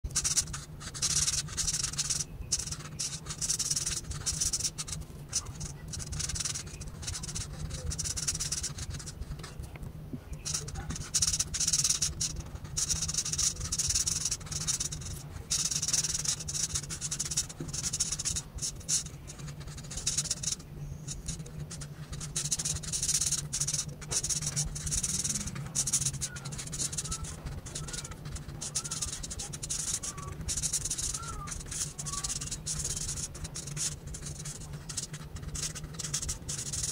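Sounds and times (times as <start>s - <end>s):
steady low hum: 0.0s - 36.9s
marker scratching on paper: 0.1s - 36.9s.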